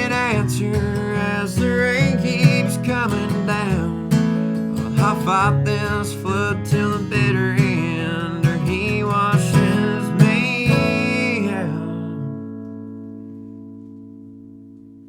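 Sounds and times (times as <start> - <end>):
person singing: 0.0 - 12.3
acoustic guitar strumming: 0.0 - 15.0.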